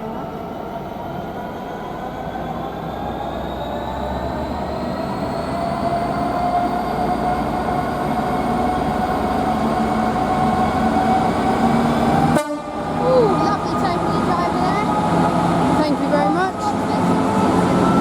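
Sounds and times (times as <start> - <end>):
train running: 0.0 - 18.0
train whine rising in pitch: 0.0 - 18.0.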